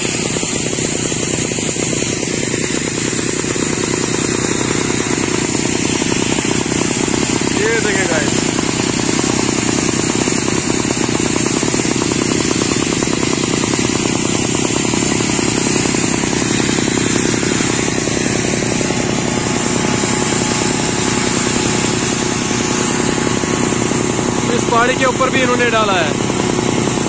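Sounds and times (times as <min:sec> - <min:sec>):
rock drill hammering: 0:00.0 - 0:27.0.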